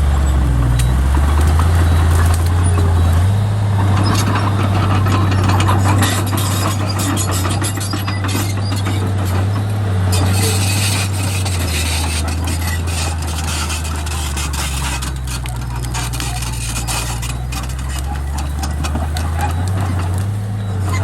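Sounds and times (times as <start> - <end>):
bulldozer diesel engine droning: 0.0 - 21.0
blade and tracks scraping and clattering: 0.6 - 21.0.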